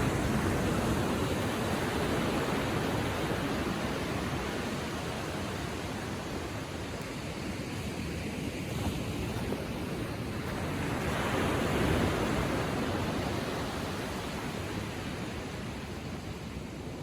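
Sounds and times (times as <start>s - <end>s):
ocean waves on sandy beach: 0.0s - 17.0s.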